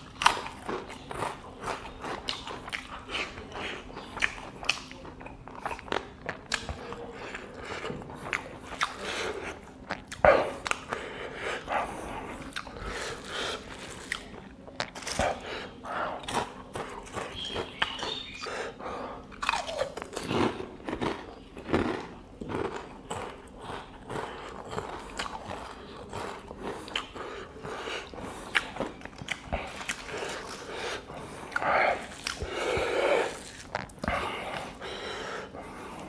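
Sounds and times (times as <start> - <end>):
person chewing and crunching food: 0.0 - 36.0.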